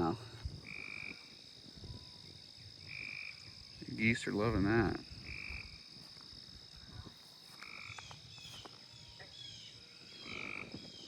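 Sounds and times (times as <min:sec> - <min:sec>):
frogs croaking: 0:00.0 - 0:11.0
high-pitched insect drone: 0:00.0 - 0:11.0.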